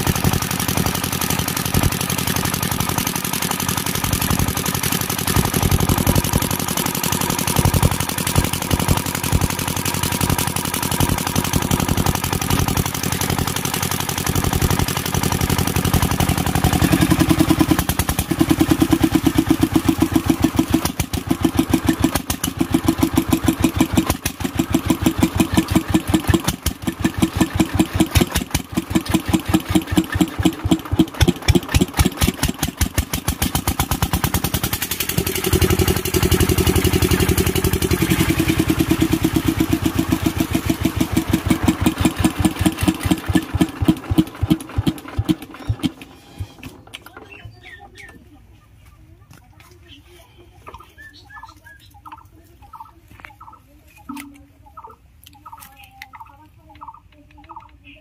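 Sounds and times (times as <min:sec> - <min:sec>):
diesel engine running: 0:00.0 - 0:57.7.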